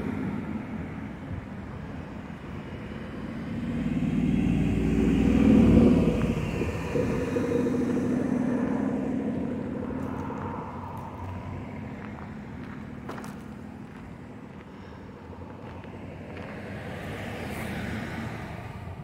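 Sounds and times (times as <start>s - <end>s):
cars driving past: 0.0s - 19.0s.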